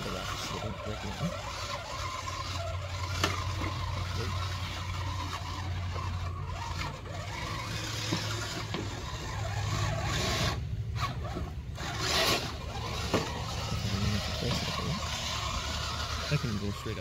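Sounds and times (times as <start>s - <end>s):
electric motor and gears whirring: 0.0s - 17.0s
tyres scraping on rocks: 0.0s - 17.0s.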